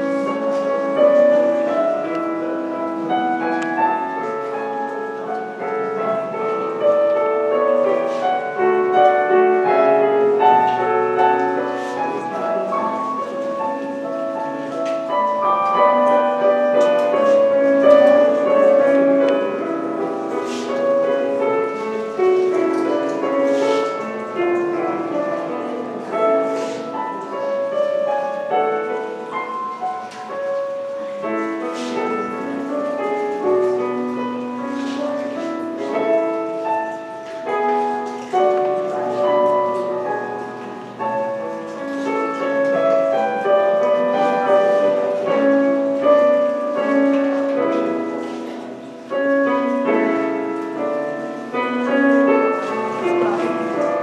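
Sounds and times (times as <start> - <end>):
slow quiet keyboard melody: 0.0 - 54.0.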